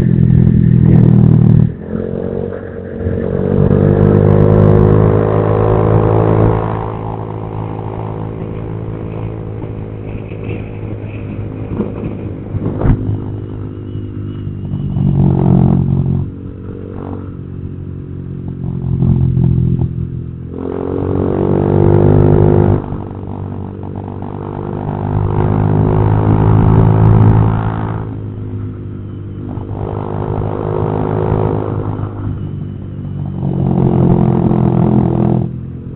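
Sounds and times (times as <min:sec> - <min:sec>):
scooter engine accelerating: 0:00.0 - 0:35.9.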